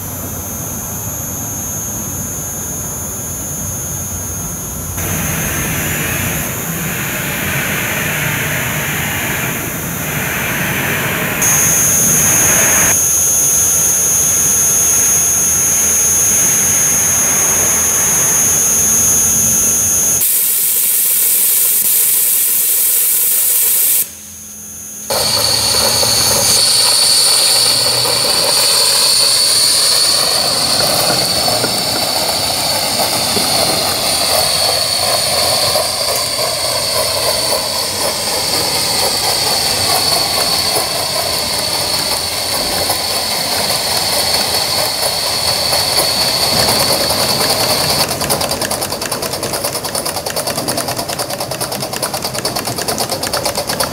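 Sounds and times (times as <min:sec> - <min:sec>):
constant high tone: 0:00.0 - 0:20.8, 0:23.9 - 0:53.9
steam locomotive hissing: 0:04.9 - 0:24.0, 0:25.1 - 0:53.9.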